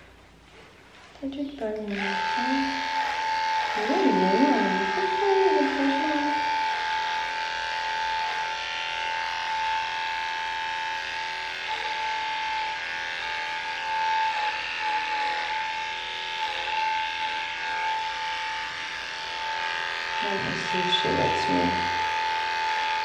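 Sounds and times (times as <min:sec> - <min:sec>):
electric clippers humming: 0:01.5 - 0:23.0.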